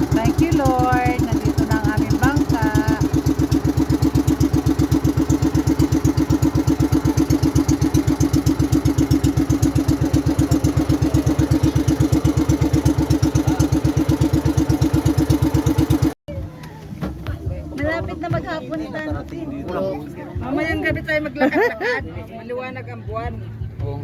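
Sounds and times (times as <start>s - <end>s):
boat engine running: 0.0s - 21.7s.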